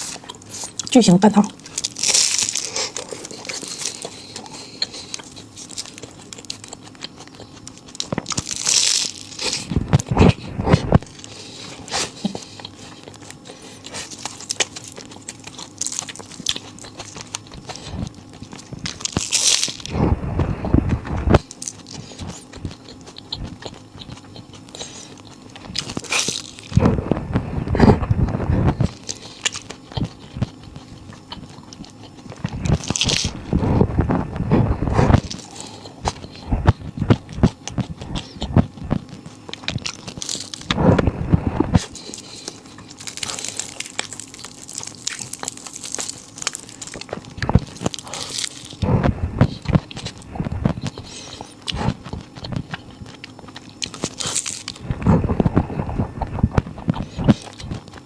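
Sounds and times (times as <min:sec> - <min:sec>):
crunchy pastry bites: 0:00.0 - 0:58.0
quiet chewing: 0:00.0 - 0:58.0.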